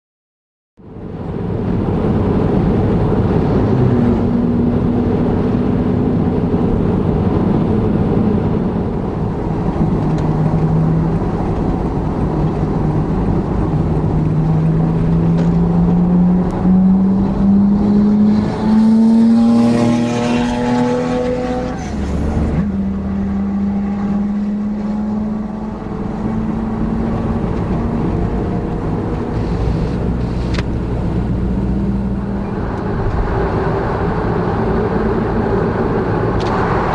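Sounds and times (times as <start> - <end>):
car engine accelerating: 0.8 - 36.9
higher layered engine note: 0.8 - 36.9.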